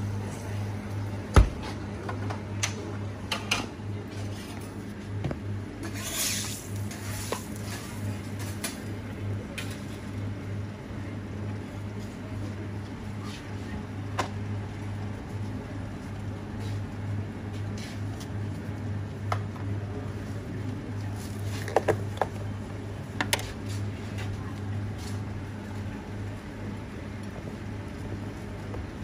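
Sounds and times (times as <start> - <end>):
kitchen equipment humming: 0.0 - 29.0.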